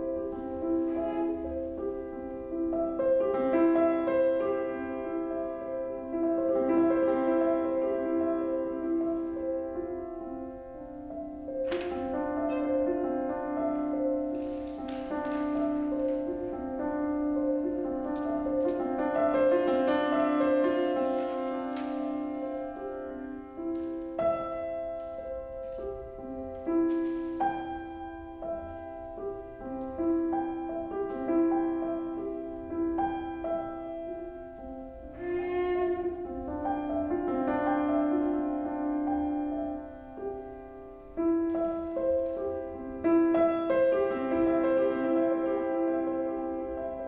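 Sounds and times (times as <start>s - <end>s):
piano trio playing classical music: 0.0s - 47.0s.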